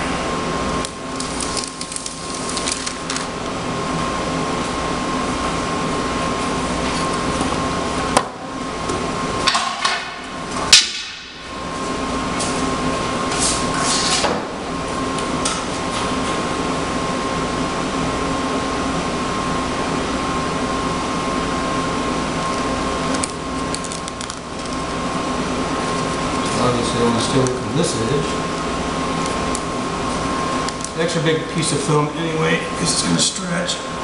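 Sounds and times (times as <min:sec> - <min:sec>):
mechanical hum with high tone: 0:00.0 - 0:34.0.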